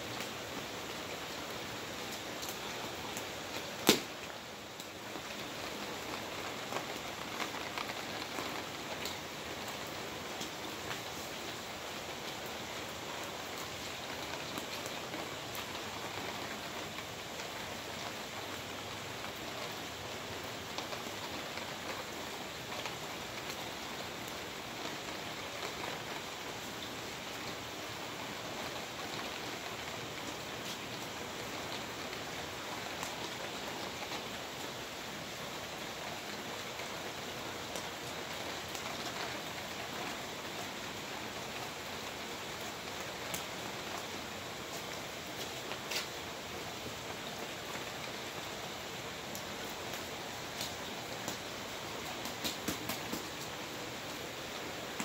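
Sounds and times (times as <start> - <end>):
rain on concrete: 0.0 - 55.0.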